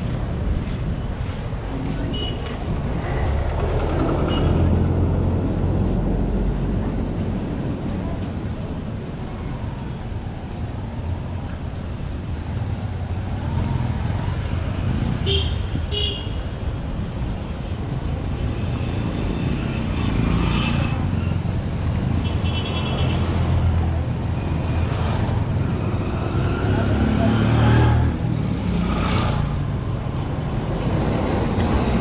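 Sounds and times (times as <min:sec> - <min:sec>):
motorcycle engines rumbling: 0:00.0 - 0:32.0.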